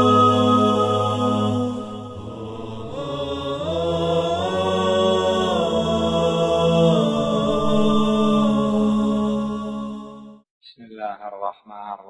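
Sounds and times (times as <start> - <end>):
voices chanting long notes: 0.0 - 10.4.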